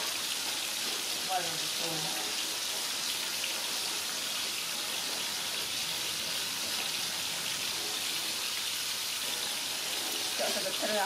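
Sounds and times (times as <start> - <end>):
rain-like hiss: 0.0 - 11.0.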